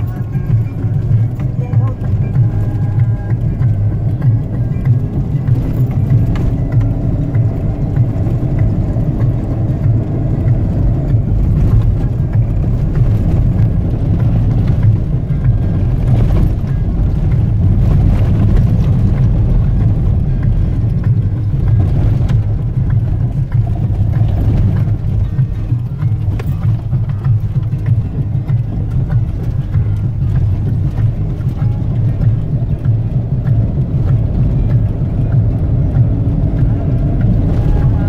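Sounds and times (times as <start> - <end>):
knocks over bumps: 0.0 - 38.0
vehicle interior low rumble: 0.0 - 38.0.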